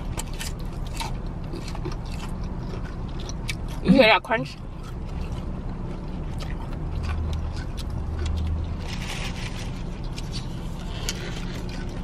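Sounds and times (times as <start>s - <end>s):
crunchy chewing of fried chicken: 0.0s - 12.0s
low car hum: 0.0s - 12.0s.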